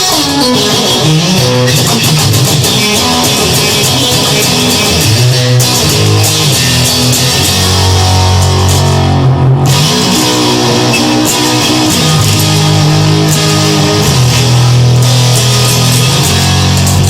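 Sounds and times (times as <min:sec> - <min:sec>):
instrumental rock music: 0:00.0 - 0:17.0.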